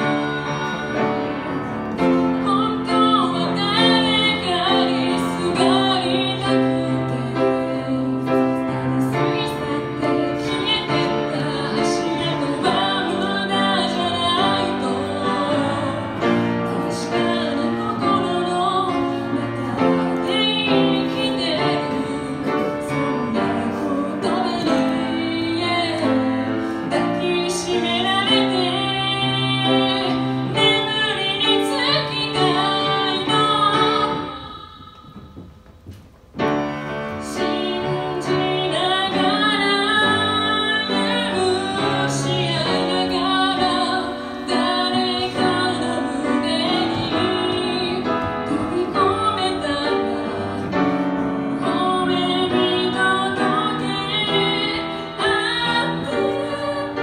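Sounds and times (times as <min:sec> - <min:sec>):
woman singing: 0:00.0 - 0:35.4, 0:36.9 - 0:57.0
grand piano: 0:00.0 - 0:57.0.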